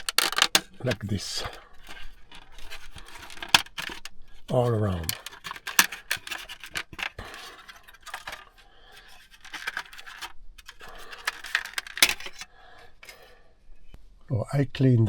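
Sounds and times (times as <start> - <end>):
hard plastic clicking and scraping: 0.0 - 13.2.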